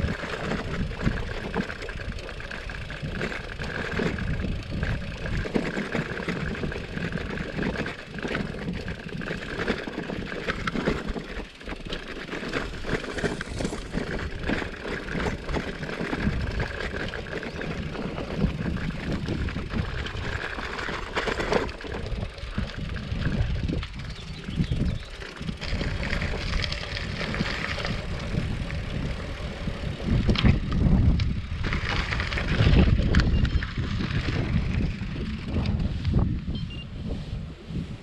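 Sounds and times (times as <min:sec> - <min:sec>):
bike knocks and rattles: 0:00.0 - 0:36.4
bike tyres rumbling on dirt: 0:00.0 - 0:38.0
wind buffeting microphone: 0:00.0 - 0:38.0.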